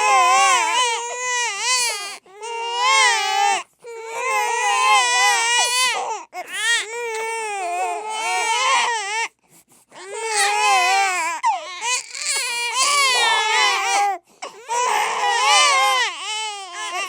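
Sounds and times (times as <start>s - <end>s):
babies crying: 0.0s - 9.3s, 10.0s - 17.0s.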